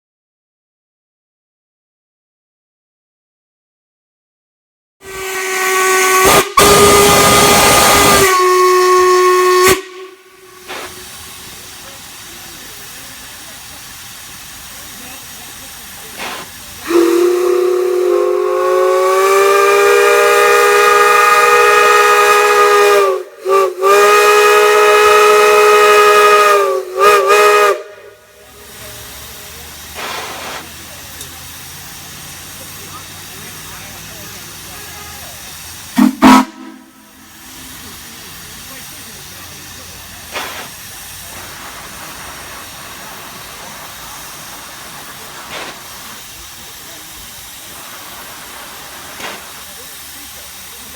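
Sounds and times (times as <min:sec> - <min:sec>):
steam hissing: 0:05.0 - 0:50.9.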